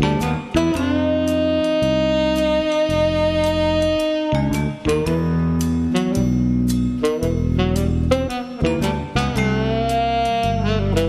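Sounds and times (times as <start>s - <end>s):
held bass notes: 0.0s - 11.0s.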